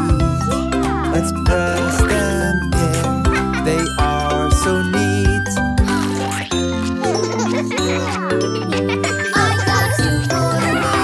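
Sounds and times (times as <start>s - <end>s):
children's cartoon music: 0.0s - 11.0s.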